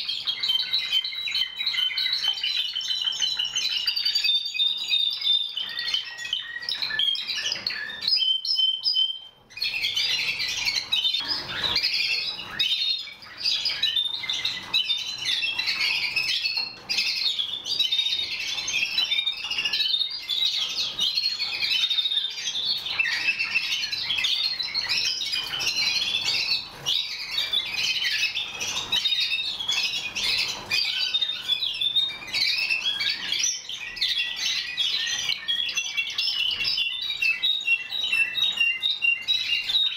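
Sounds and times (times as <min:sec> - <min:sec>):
canaries singing in chorus: 0:00.0 - 0:39.9.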